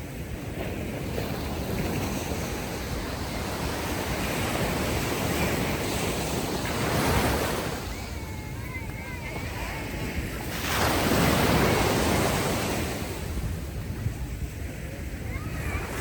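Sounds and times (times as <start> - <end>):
ocean waves washing ashore: 0.0 - 16.0.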